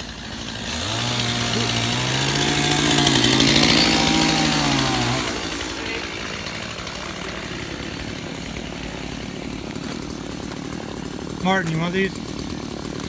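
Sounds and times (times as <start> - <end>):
chainsaw running at high revs: 0.0 - 13.0.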